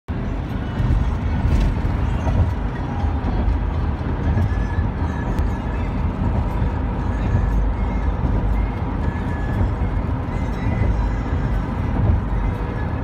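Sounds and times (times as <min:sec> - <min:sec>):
car interior driving rumble: 0:00.1 - 0:13.0.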